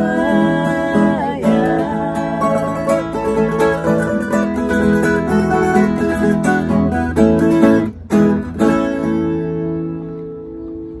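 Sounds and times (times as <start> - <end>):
acoustic guitars playing: 0.0 - 11.0.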